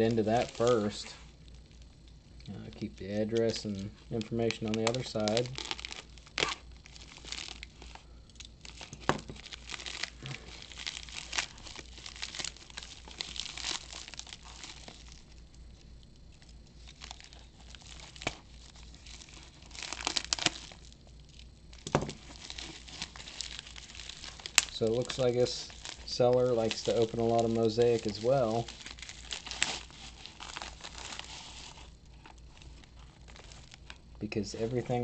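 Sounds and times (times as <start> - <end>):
plastic mailer crinkling: 0.0 - 35.0.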